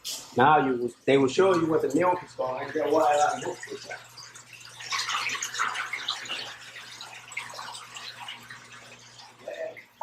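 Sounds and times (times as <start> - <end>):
water rushing through pipework: 0.0 - 10.0.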